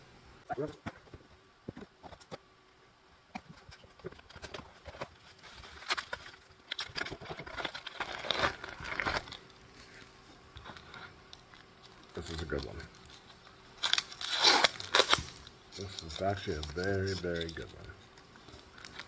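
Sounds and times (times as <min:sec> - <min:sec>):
bubble wrap and plastic crinkling: 0:03.6 - 0:19.0.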